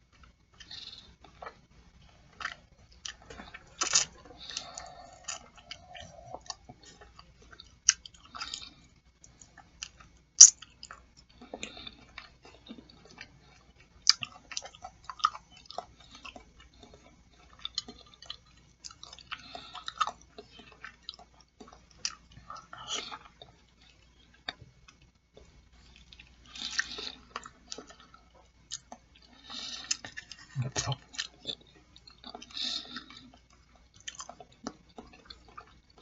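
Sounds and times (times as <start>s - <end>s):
close chewing: 0.0s - 36.0s.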